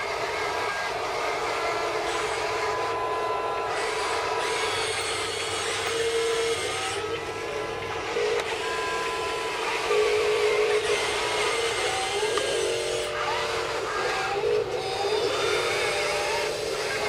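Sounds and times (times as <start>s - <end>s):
constant low hum: 0.0s - 17.0s
electric motors whining: 0.0s - 17.0s.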